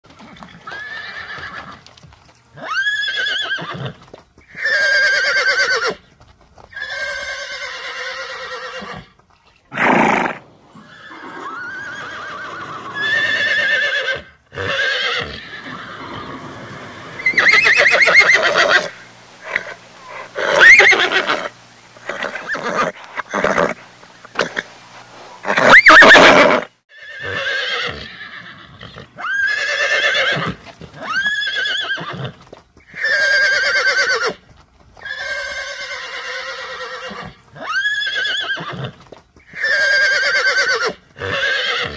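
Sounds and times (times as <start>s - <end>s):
horses whinnying and neighing: 0.2s - 1.8s, 2.5s - 6.1s, 6.7s - 34.4s, 35.0s - 41.9s.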